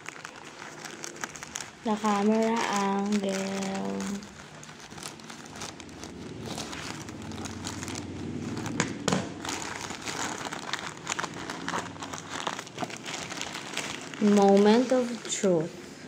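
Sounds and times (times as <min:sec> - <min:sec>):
scissors cutting plastic: 0:00.0 - 0:15.4
plastic mailer crinkling: 0:00.0 - 0:15.6.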